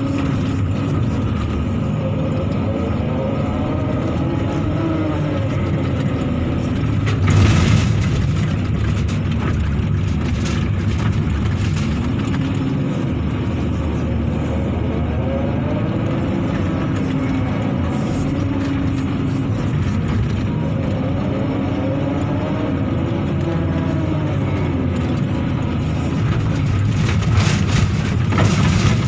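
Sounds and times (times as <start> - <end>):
excavator diesel engine: 0.0 - 29.0
hydraulics whining: 0.0 - 29.0.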